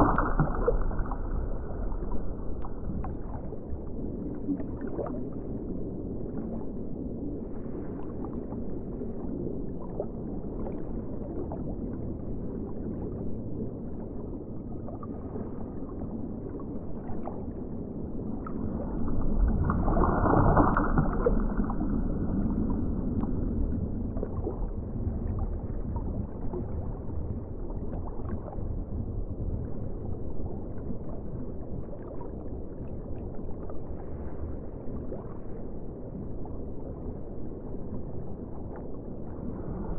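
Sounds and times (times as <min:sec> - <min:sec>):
underwater water rumble: 0:00.0 - 0:39.9.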